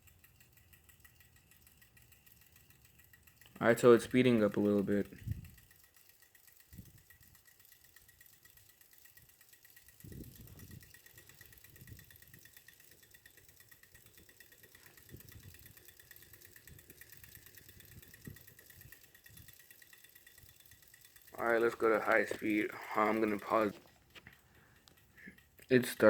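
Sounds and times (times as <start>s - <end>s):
ceiling fan pulsing: 0.0s - 26.0s.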